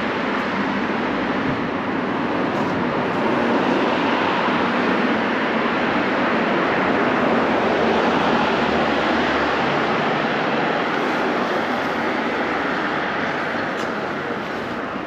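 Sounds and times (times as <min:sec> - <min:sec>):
road traffic: 0:00.0 - 0:15.0
street noise hiss: 0:00.0 - 0:15.0.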